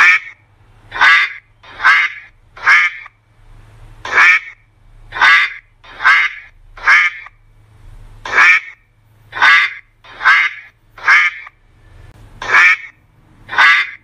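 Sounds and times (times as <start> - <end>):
duck quacking: 0.0 - 3.2, 4.0 - 7.4, 8.2 - 11.6, 12.4 - 14.0.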